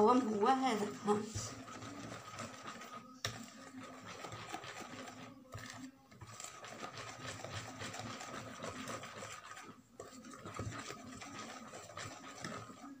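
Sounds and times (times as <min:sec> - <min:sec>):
whisk beating batter in bowl: 0:00.0 - 0:13.0.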